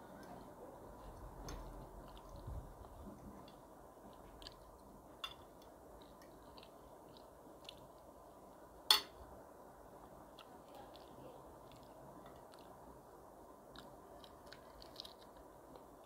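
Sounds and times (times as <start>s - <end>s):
chewing and wet mouth sounds: 0.0s - 8.7s, 10.0s - 16.0s.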